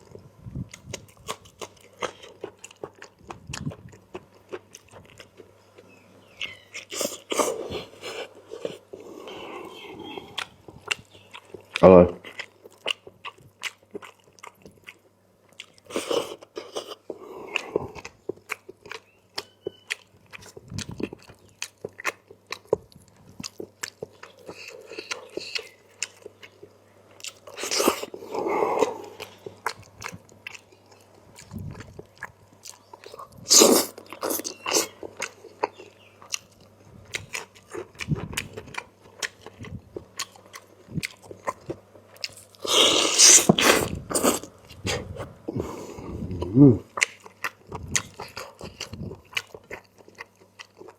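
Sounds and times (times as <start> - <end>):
person chewing food: 0.0 - 50.9.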